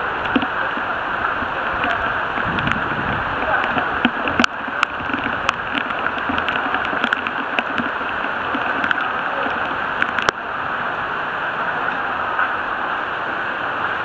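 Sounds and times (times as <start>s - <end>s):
bicycle tyres through water: 0.0s - 14.0s.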